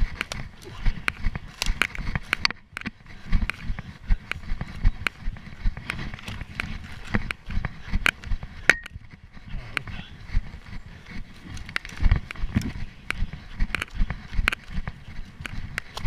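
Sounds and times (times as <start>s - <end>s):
hard panting breath: 0.0s - 16.0s
running footsteps on forest floor: 0.0s - 16.0s
twigs crackling underfoot: 0.0s - 16.0s.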